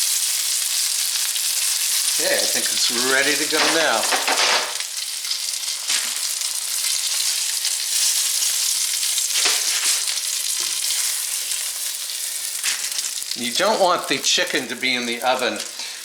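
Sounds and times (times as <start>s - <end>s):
chicken sizzling in a skillet: 0.0s - 16.0s
oil crackles: 0.0s - 16.0s.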